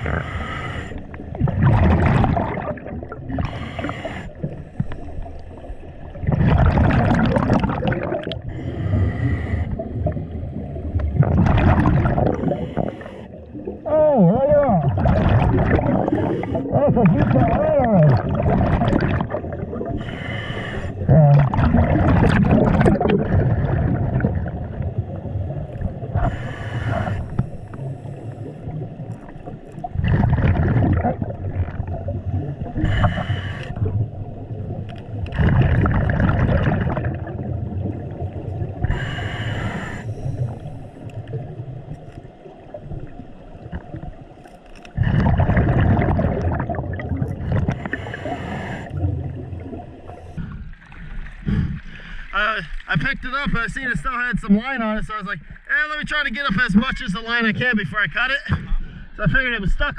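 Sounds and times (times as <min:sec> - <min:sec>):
gurgling exhaled bubbles: 0:00.0 - 0:52.8.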